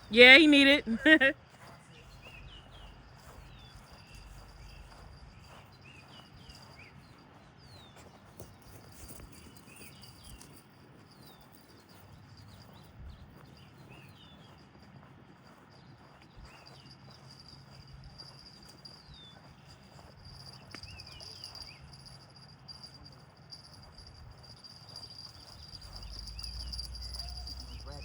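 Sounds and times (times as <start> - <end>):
bird chirping: 1.9 - 14.6, 15.9 - 22.8, 24.5 - 28.0.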